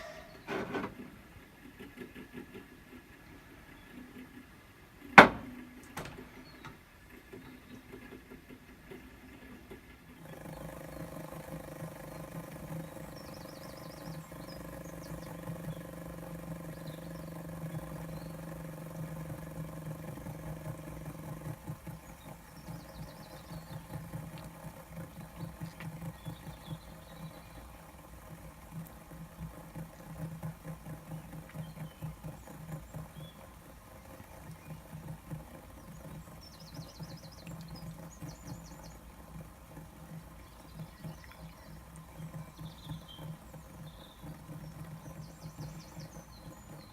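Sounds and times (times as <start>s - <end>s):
fidget spinner whirring: 0.0s - 4.5s, 5.1s - 46.9s.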